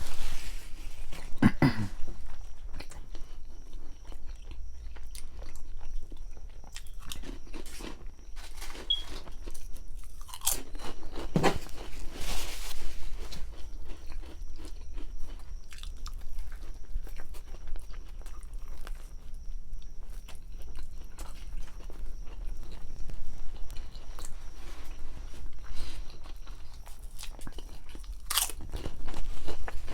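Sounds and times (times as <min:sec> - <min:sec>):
chewing and crunching sandwich: 0:00.0 - 0:29.9.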